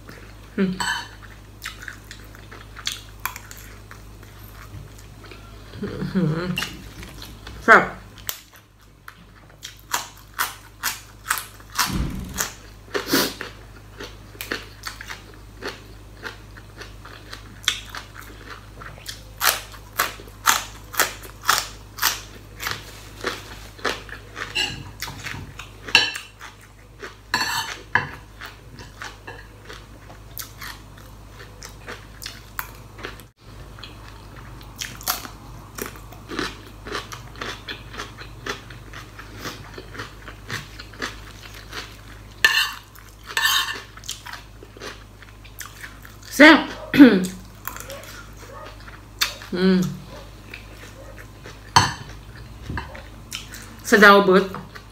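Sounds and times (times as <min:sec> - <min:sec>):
crunchy vegetables being chewed: 0:00.0 - 0:53.9.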